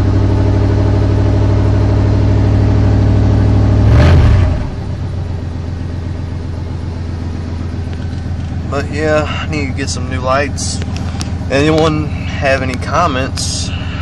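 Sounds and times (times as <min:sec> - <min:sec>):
pickup truck exhaust idling: 0:00.0 - 0:14.0.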